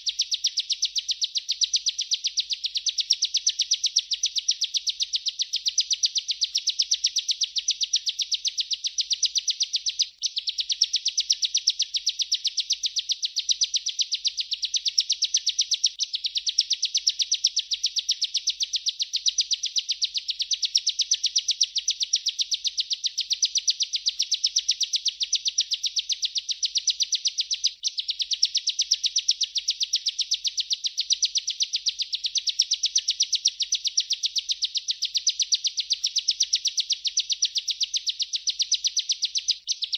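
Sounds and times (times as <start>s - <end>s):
bird singing rapid high trill: 0.0s - 39.9s.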